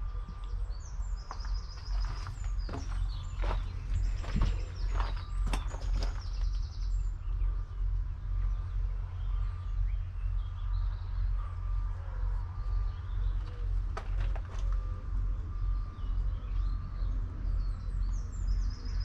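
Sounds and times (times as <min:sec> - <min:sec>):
birds chirping faintly: 0:00.0 - 0:19.0
low rumble: 0:00.0 - 0:19.0.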